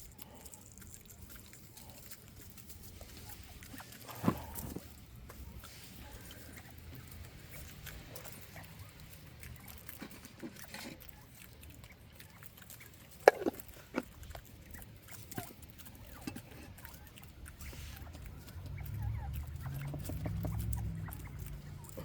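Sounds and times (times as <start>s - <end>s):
quail pecking and crunching: 0.0s - 22.0s.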